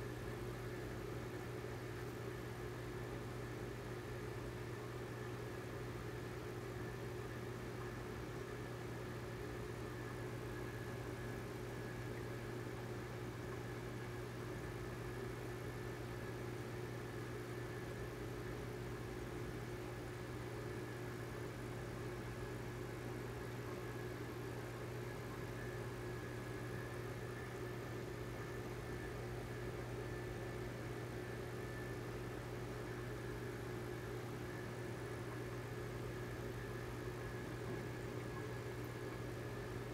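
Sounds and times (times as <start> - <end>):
aquarium air pump and filter hum: 0.0 - 39.9.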